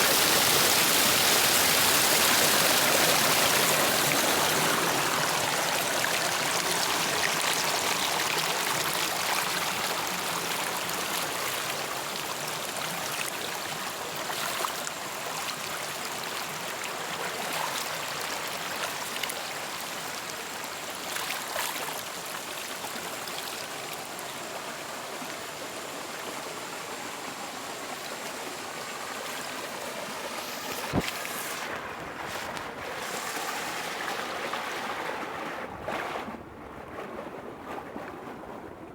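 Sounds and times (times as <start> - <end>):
stream water trickling: 0.0 - 36.4.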